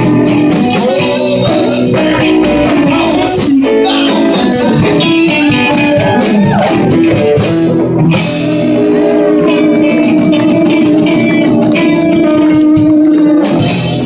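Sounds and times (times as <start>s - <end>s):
bass guitar: 0.0s - 14.0s
drum kit: 0.0s - 14.0s
electric guitars: 0.0s - 14.0s.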